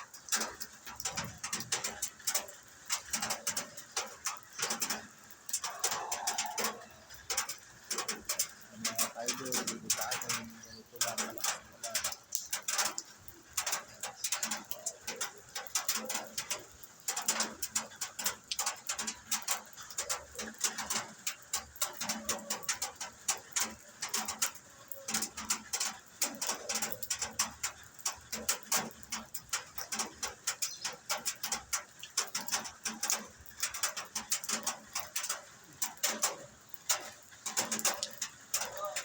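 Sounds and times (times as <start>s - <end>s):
heavy rain on hard surface: 0.0s - 39.0s.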